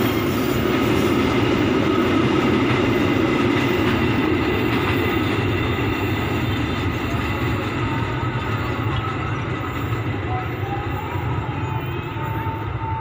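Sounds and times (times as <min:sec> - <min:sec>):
train wagons rumbling on rails: 0:00.0 - 0:13.0.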